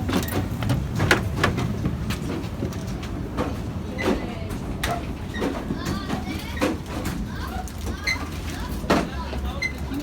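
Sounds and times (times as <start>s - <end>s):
tram rumbling on track: 0.0s - 10.0s.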